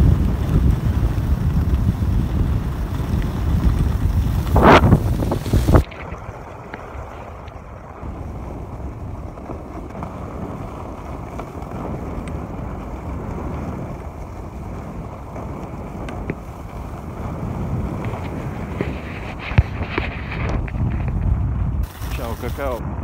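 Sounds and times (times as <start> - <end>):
skis scraping on snow: 0.0 - 22.8
wind rush over microphone: 0.0 - 23.0.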